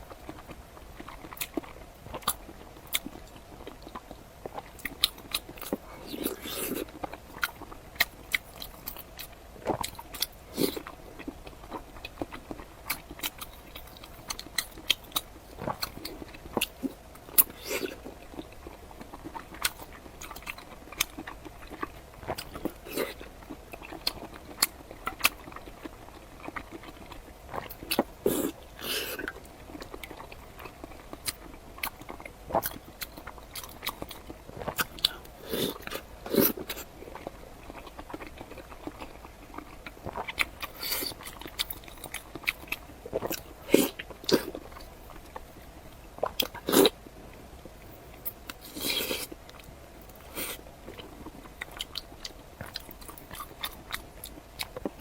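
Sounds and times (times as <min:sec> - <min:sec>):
person chewing wetly: 0:00.0 - 0:55.0.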